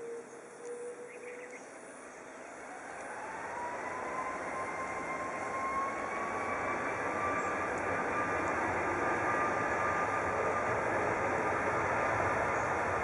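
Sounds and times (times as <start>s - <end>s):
jet engines spooling up: 2.0s - 13.0s.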